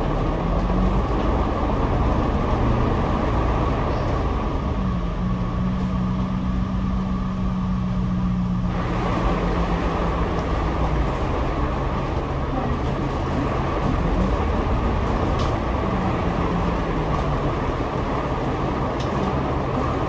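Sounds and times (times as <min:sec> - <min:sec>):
bus engine and road noise: 0:00.0 - 0:20.0
low engine hum: 0:00.0 - 0:20.0.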